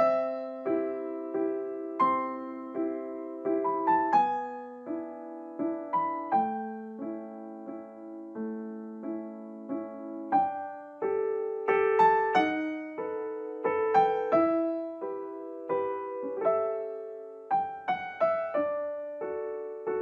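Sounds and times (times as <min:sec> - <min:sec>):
gentle piano piece: 0:00.0 - 0:20.0.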